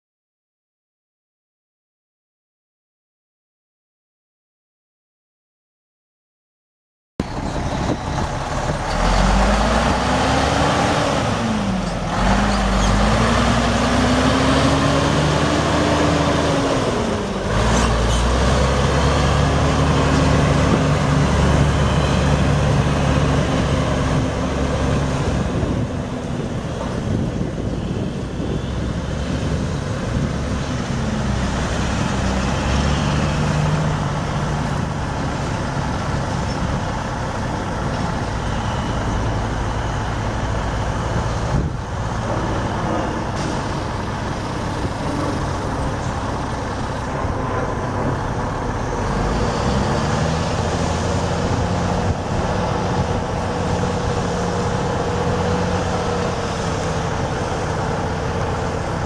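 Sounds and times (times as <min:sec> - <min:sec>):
diesel engine revving: 0:07.2 - 0:59.0.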